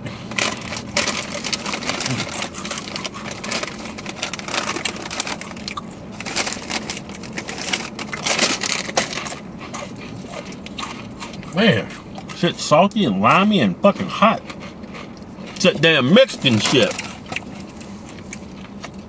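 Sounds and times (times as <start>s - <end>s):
people chewing crunchy chips: 0.0s - 19.0s.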